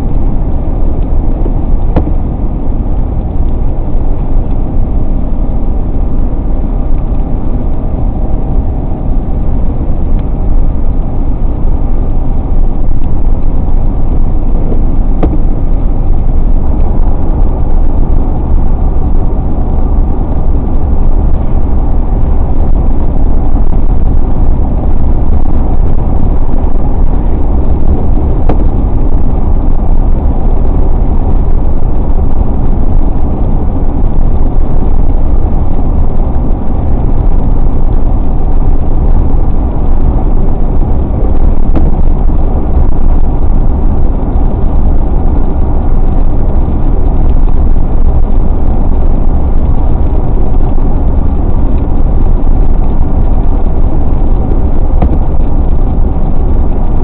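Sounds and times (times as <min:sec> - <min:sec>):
car tyre and engine rumble: 0:00.0 - 0:57.0.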